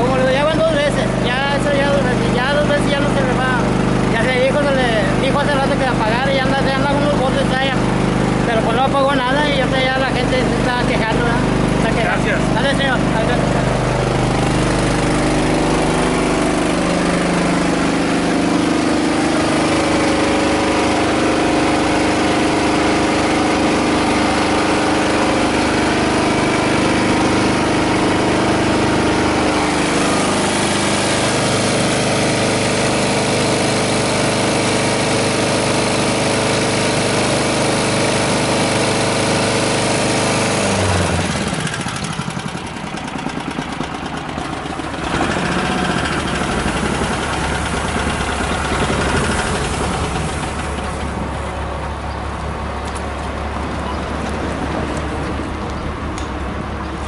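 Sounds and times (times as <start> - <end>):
fire engine motor running: 0.0 - 57.0.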